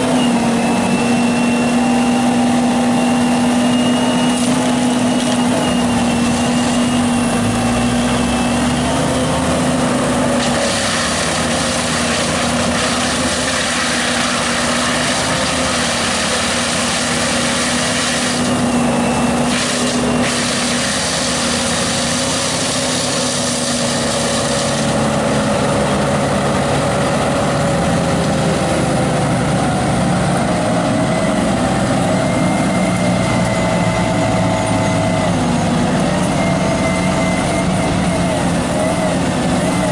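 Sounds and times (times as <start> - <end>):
machinery engine running: 0.0 - 39.9.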